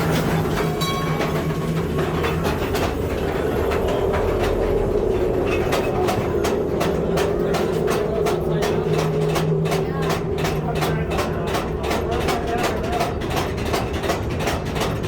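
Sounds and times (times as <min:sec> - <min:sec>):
steady running hum: 0:00.0 - 0:15.0
wheels clacking over rail joints: 0:00.0 - 0:15.0.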